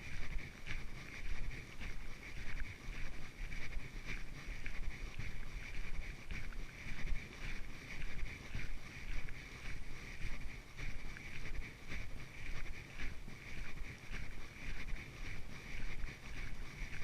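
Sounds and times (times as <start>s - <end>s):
footsteps walking: 0.0s - 17.0s
low wind: 0.0s - 17.0s.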